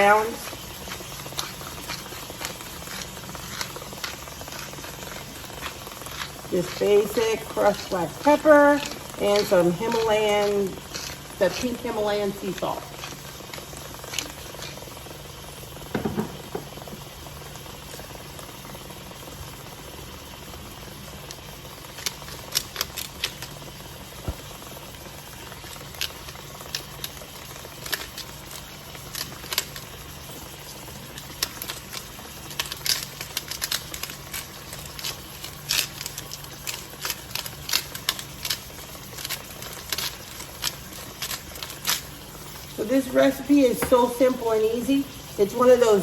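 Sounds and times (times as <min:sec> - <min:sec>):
fat crackling and popping: 0:00.0 - 0:46.0.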